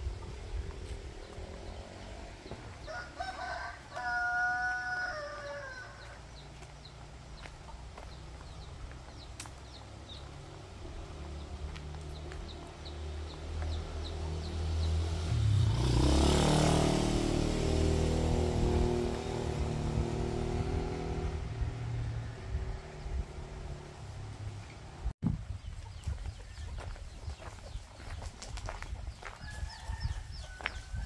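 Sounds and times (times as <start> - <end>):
vehicle engine passing: 0.0 - 25.1.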